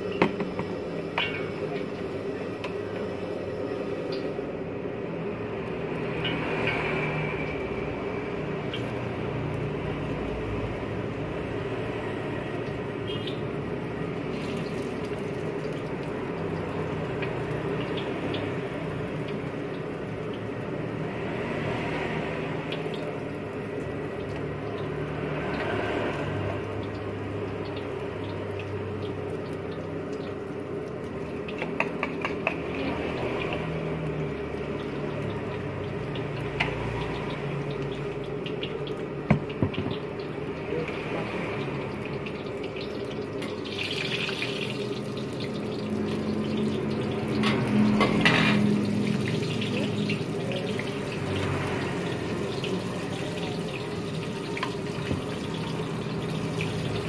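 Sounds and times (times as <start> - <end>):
eggs sizzling in hot oil: 0.0 - 57.0.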